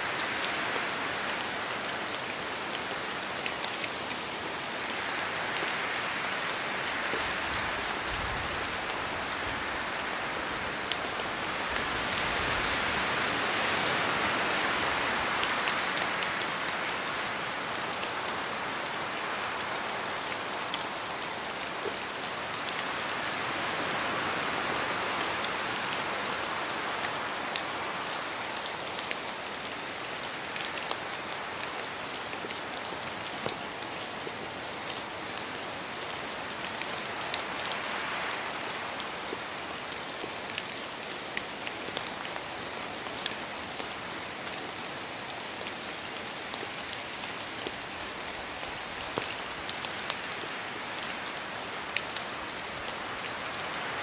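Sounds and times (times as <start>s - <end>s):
steady rain falling: 0.0s - 54.0s
wind-like hiss: 0.0s - 54.0s.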